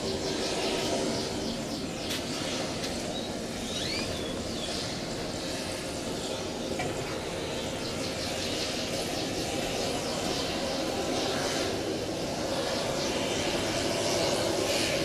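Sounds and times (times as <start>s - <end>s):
jet engines whining and rumbling: 0.0s - 15.0s.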